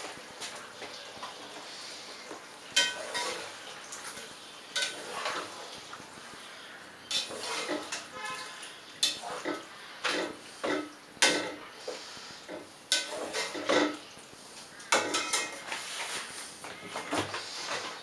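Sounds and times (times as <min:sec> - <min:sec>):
utensil scraping cooking pot: 0:02.6 - 0:14.1, 0:14.9 - 0:18.0.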